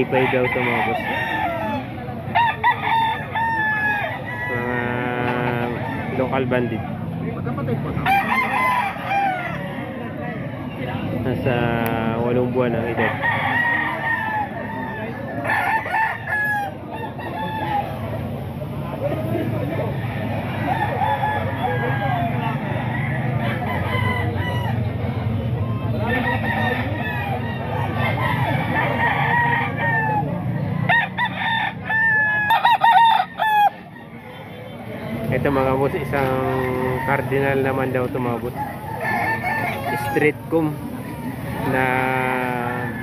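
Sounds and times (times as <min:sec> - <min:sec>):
roosters crowing: 0:00.0 - 0:43.0.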